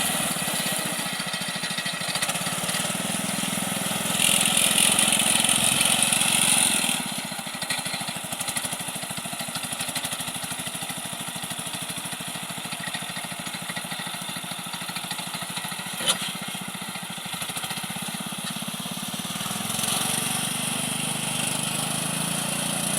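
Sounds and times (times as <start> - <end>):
small tractor engine running: 0.0 - 22.9.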